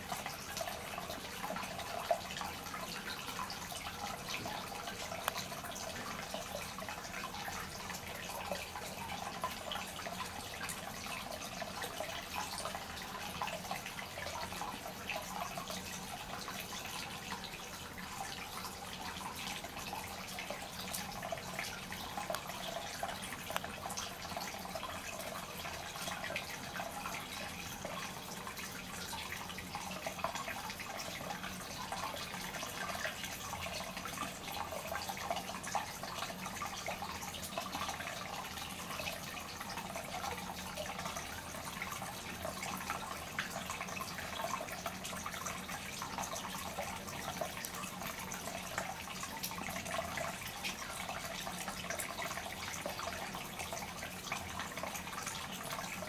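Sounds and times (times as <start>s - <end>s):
small drips and splashes: 0.0s - 56.0s
water running and splashing: 0.0s - 56.0s.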